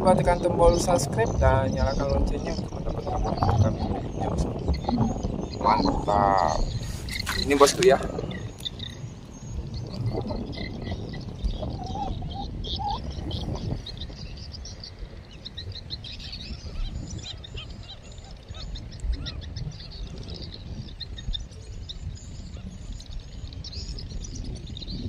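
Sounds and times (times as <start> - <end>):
wind rumble on microphone: 0.0 - 25.0
ducks whistling: 0.1 - 21.5.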